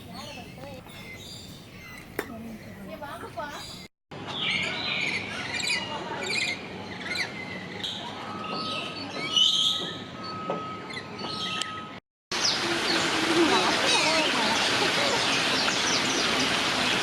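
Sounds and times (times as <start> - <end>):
birds chirping and calling: 0.0 - 16.5.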